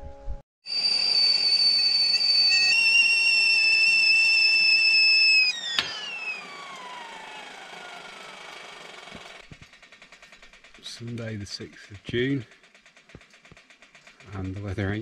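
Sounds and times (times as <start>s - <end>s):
kettle whistling: 0.6s - 15.0s
steam hissing: 0.7s - 15.0s.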